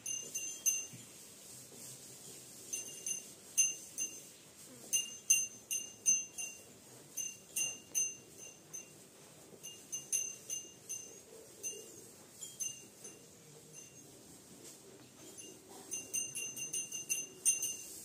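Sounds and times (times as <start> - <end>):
small metal bell ringing: 0.0 - 1.2, 2.7 - 9.0, 9.6 - 14.2, 15.2 - 18.0.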